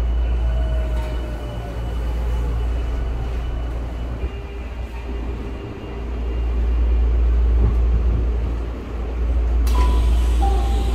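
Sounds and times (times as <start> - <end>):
train wheels rumbling on rail: 0.0 - 10.9.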